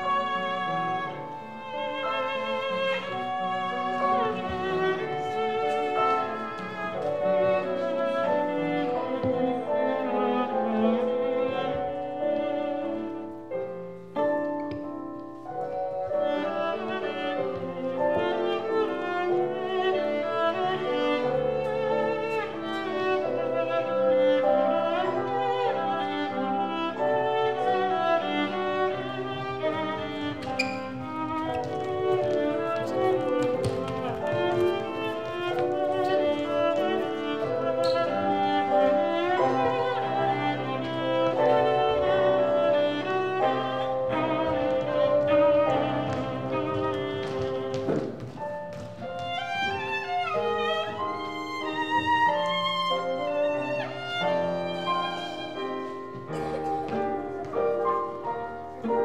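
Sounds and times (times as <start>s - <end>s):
instrumental string music: 0.0s - 59.0s.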